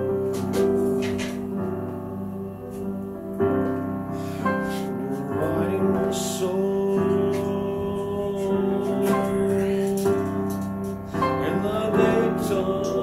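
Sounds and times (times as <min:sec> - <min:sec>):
sustained keyboard chords: 0:00.0 - 0:13.0.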